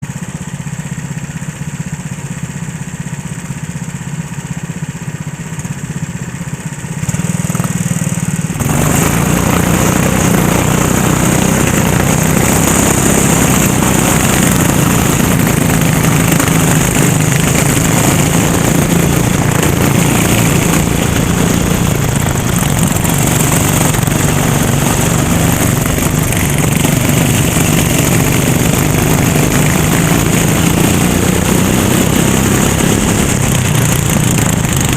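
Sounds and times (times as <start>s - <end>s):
racing kart engine running: 0.0s - 34.9s.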